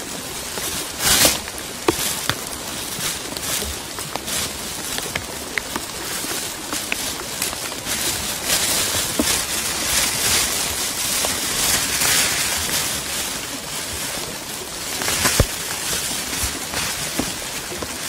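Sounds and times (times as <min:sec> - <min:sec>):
plastic raincoat rustling: 0:00.0 - 0:18.0
rain patter: 0:00.0 - 0:18.0.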